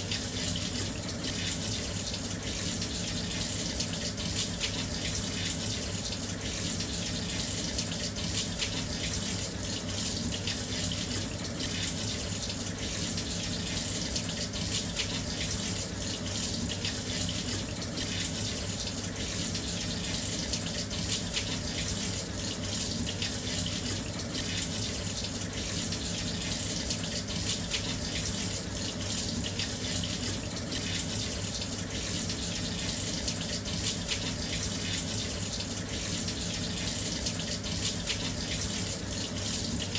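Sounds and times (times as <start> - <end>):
water pouring into washing machine: 0.0 - 39.9.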